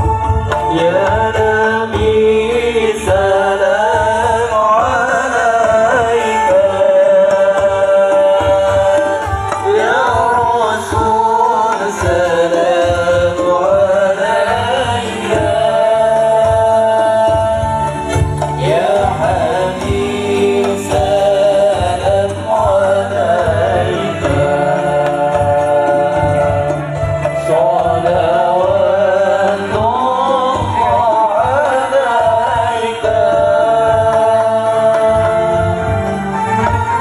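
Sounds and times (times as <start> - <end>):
ornamented singing: 0.0 - 37.0.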